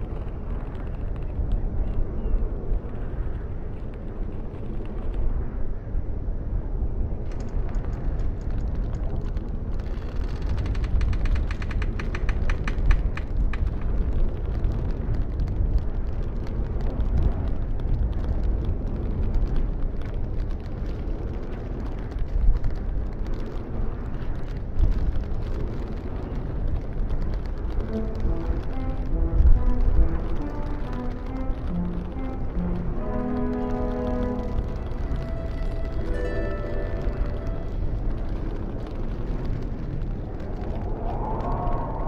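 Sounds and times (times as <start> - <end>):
strong wind rumbling: 0.0 - 42.0.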